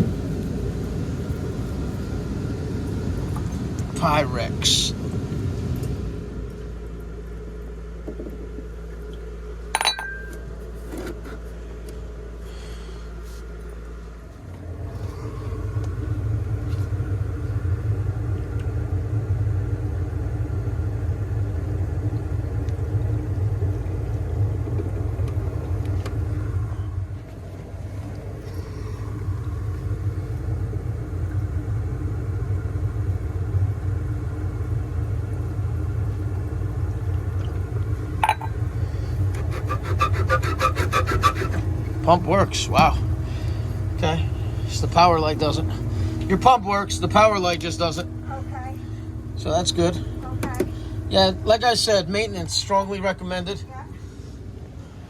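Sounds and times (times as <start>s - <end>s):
condensate pump rumbling hum: 0.0s - 55.0s
steady lower hum: 0.0s - 55.0s.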